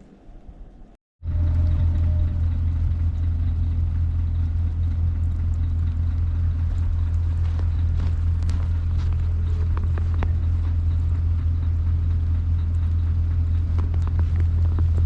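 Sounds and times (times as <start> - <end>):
vehicle engine droning: 1.2 - 15.0.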